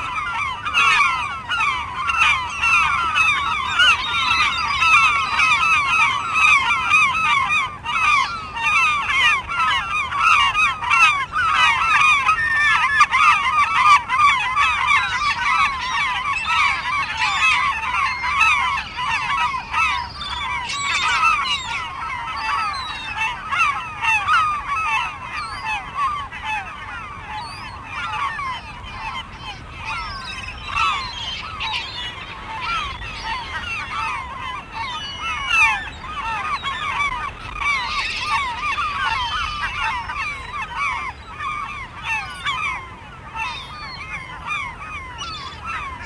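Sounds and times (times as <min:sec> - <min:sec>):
gulls calling: 0:00.0 - 0:46.0.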